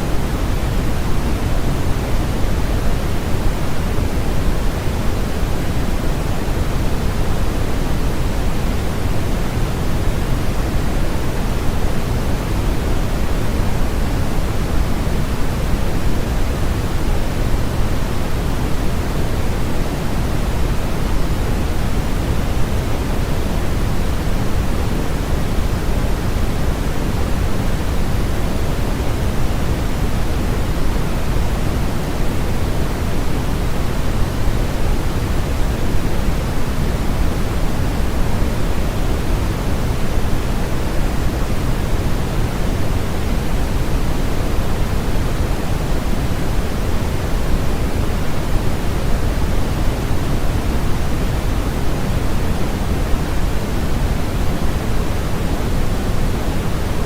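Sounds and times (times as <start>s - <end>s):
steady low hiss noise: 0.0s - 57.0s.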